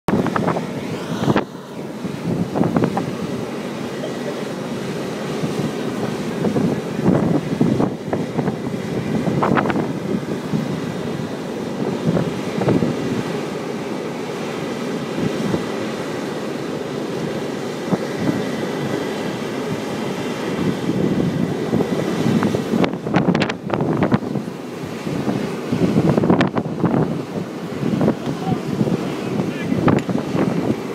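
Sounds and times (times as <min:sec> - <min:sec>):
wind buffeting microphone: 0:00.1 - 0:16.3, 0:16.9 - 0:30.9.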